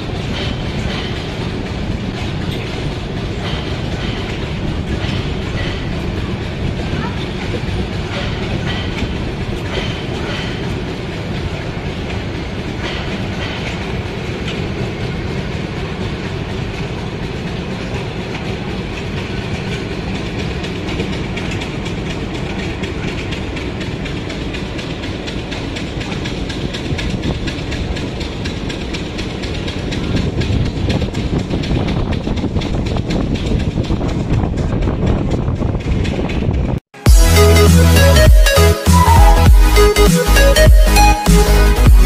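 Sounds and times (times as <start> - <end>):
train wheels clattering over rail joints: 0.0 - 36.8.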